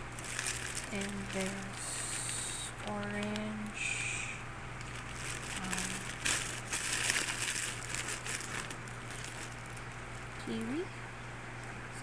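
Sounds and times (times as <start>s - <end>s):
packaging crinkling: 0.0s - 3.8s, 4.8s - 10.8s.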